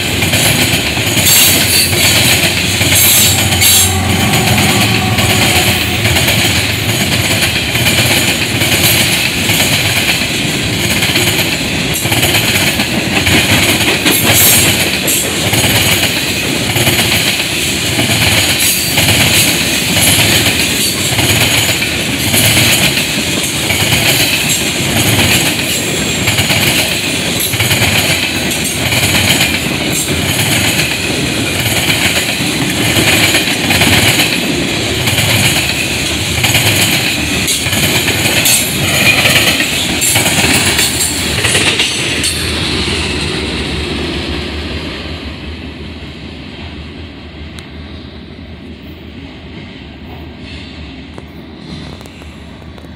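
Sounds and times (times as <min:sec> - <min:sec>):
freight train wheels clattering: 0:00.0 - 0:43.7.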